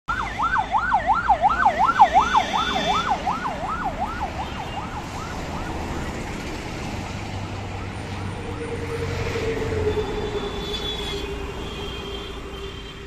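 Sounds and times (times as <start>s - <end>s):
police siren yelping: 0.1s - 12.1s.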